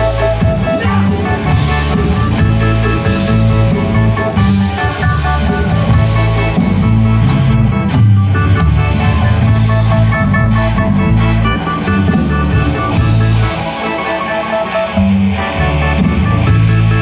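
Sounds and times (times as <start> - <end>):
drum kit with cymbals: 0.0 - 17.0
electric guitar chords: 0.0 - 17.0
heavy bass line: 0.0 - 17.0.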